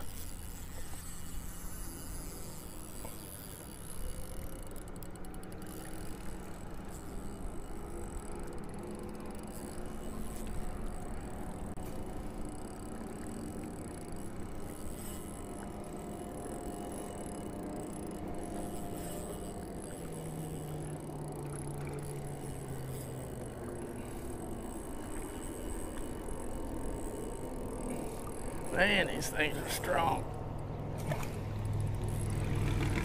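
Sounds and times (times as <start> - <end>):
faint steady hum: 0.0 - 32.4
fishing reel cranking: 0.0 - 33.0
water noise: 0.0 - 33.0
wind: 0.0 - 33.0.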